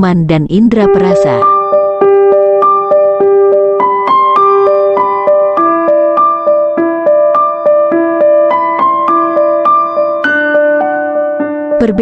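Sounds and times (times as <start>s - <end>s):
background piano music: 0.8s - 12.0s.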